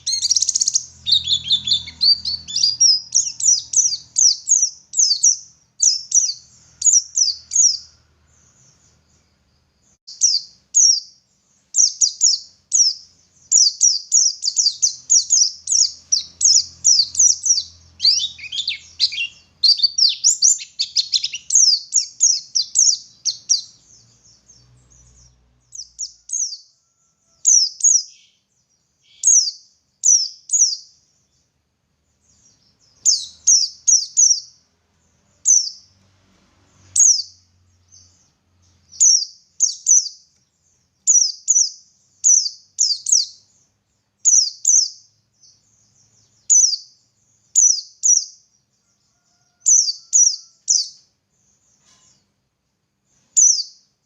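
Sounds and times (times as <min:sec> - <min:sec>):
small bird singing: 0:00.0 - 0:54.0.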